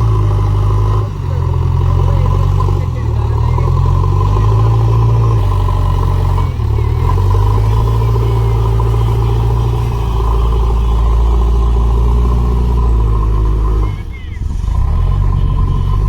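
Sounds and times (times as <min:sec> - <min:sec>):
large diesel engine running: 0:00.0 - 0:16.0.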